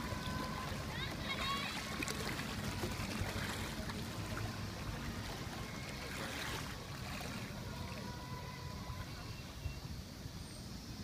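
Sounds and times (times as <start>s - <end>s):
outboard engine humming: 0.0s - 10.9s
water rushing under hull: 0.0s - 11.0s.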